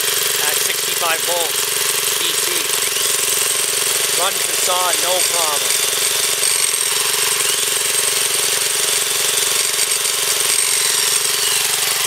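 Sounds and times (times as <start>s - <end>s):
gas engine running steadily: 0.0s - 12.0s.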